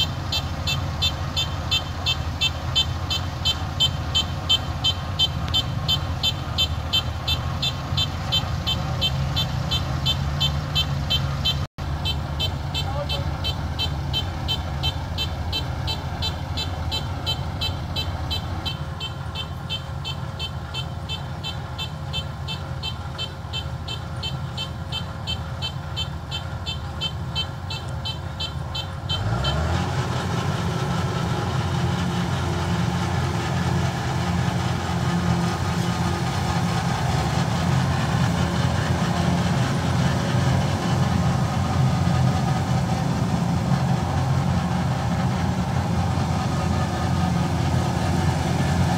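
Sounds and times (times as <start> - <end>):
combine harvester engine running: 0.0 - 48.9.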